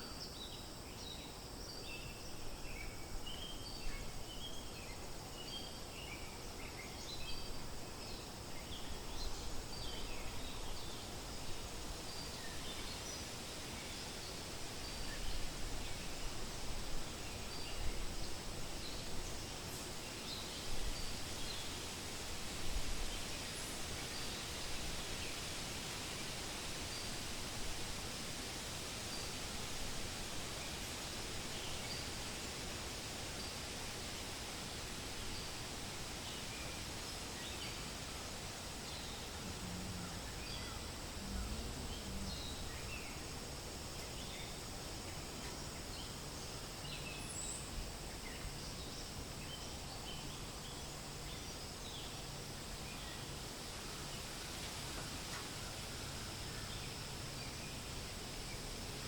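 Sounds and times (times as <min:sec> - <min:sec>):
wind rustling through leaves: 0:00.0 - 0:59.0.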